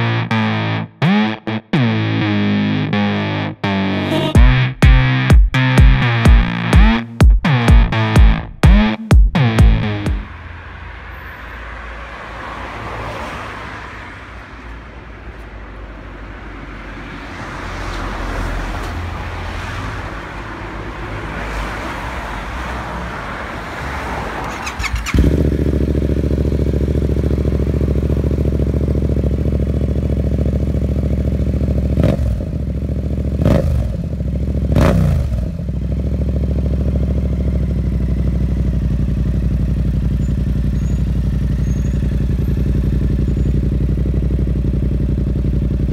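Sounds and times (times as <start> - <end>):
motorcycle engine idling and revving: 0.0 - 45.9.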